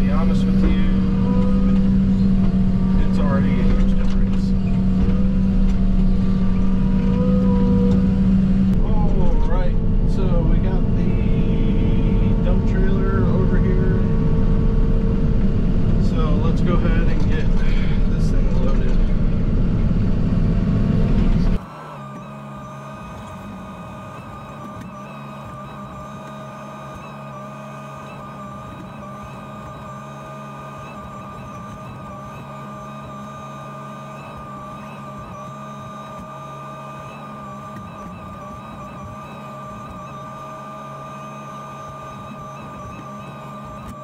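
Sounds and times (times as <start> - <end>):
excavator engine hum: 0.0 - 44.0
steady high whine: 0.0 - 44.0.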